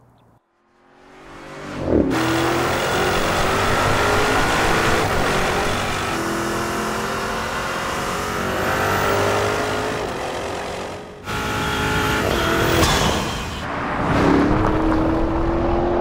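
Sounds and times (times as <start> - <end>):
car engine accelerating: 0.6 - 16.0.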